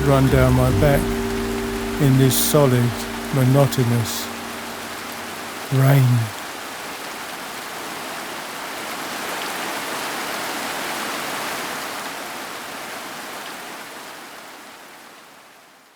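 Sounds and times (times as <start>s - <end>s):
heavy rain: 0.0s - 14.3s.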